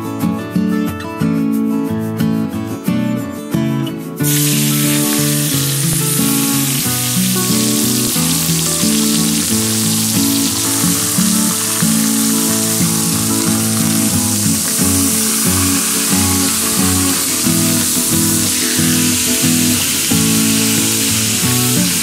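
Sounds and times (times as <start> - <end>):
background music: 0.0 - 22.0
food sizzling on a griddle: 4.2 - 22.0.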